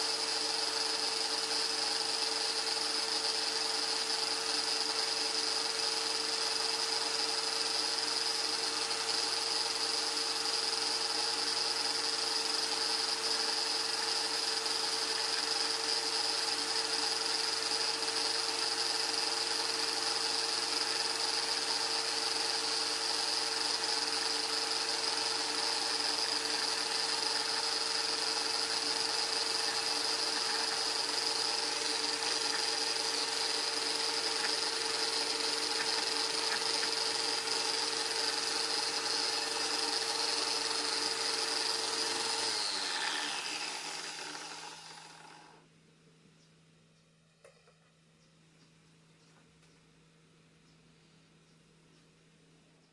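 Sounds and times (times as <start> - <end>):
small electric motor whining: 0.0 - 45.6.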